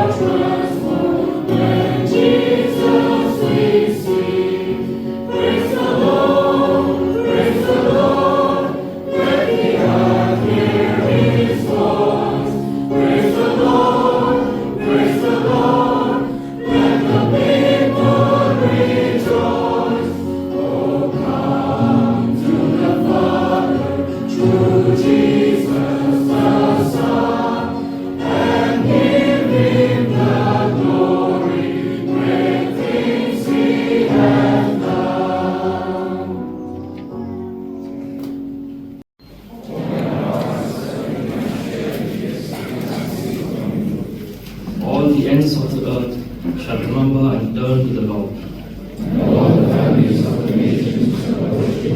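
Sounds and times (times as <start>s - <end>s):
choir singing a hymn: 0.0s - 38.8s, 39.5s - 45.2s, 48.9s - 51.9s.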